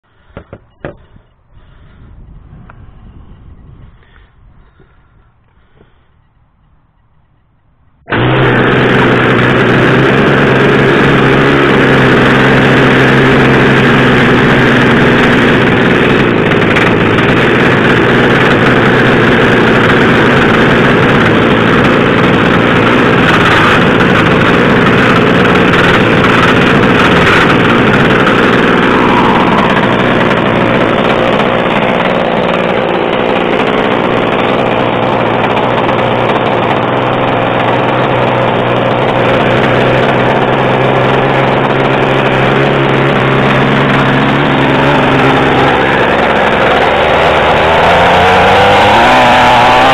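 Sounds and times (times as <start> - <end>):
model boat engine idling: 4.7 - 49.9.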